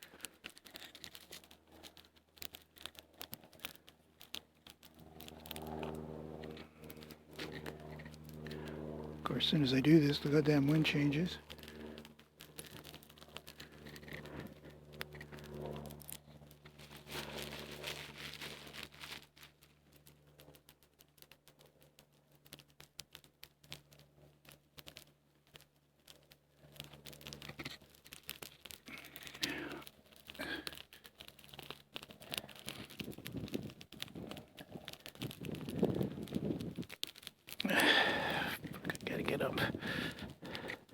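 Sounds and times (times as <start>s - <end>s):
campfire crackling: 0.0s - 40.9s
twigs and bark rustling and tearing: 0.0s - 40.9s.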